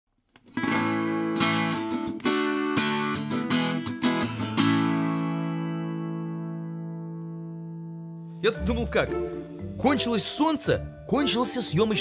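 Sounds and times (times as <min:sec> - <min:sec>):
acoustic guitar strumming: 0:00.5 - 0:12.0.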